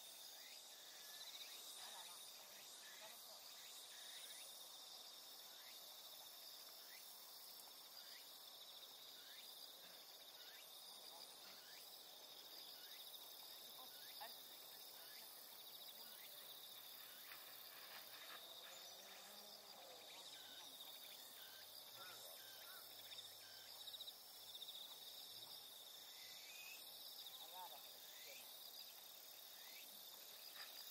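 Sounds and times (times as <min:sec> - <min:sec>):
crickets trilling: 0:00.0 - 0:30.9.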